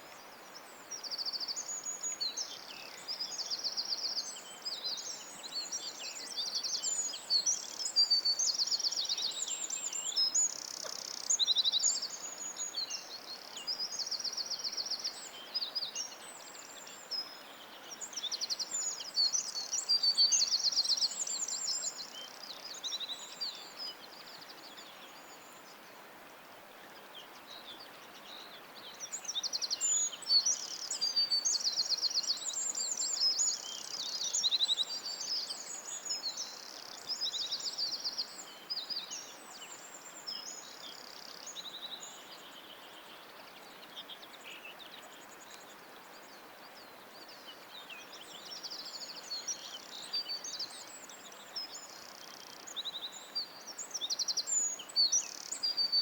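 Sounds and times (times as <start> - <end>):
songbirds trilling and chirping: 0.0 - 25.9, 26.9 - 56.0
faint steady hiss: 0.0 - 56.0.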